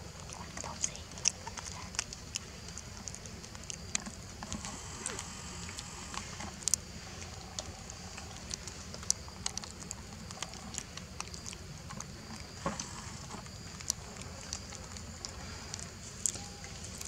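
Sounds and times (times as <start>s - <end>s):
soft clicks and crackles of grass: 0.0s - 17.0s.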